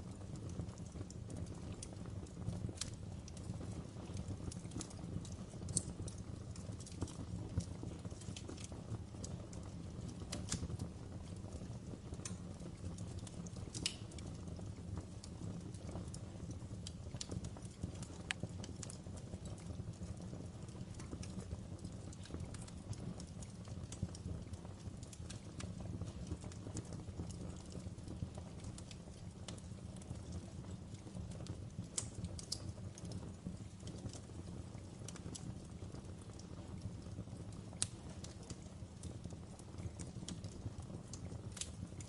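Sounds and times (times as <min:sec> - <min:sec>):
wood logs burning in fireplace: 0:00.0 - 0:42.0.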